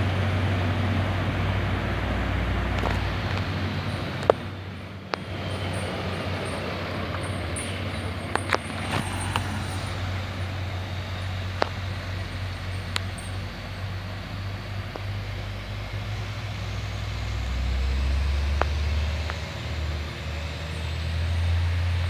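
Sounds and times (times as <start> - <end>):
diesel truck engine droning: 0.0 - 22.0
road noise: 0.0 - 22.0.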